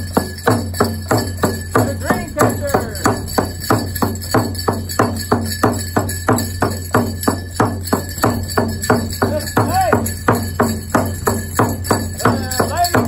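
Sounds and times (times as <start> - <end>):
drum beating steadily: 0.0 - 13.0.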